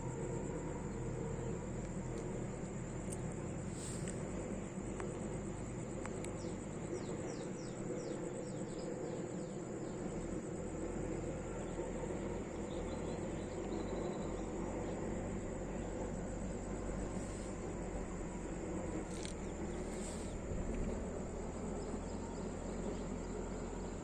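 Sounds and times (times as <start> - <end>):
high-pitched insect drone: 0.0 - 24.0
low background rumble: 0.0 - 24.0.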